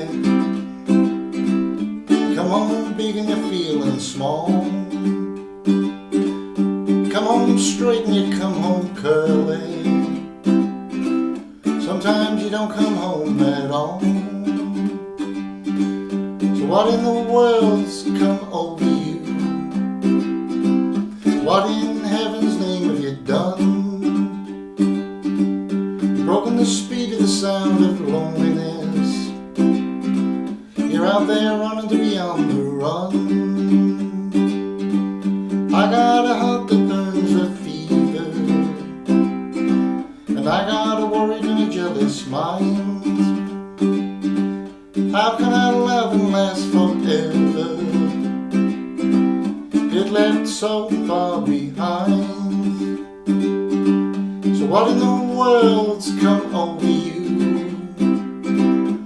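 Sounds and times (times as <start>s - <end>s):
person singing country song: 0.0s - 59.0s
ukulele strumming chords: 0.0s - 59.0s.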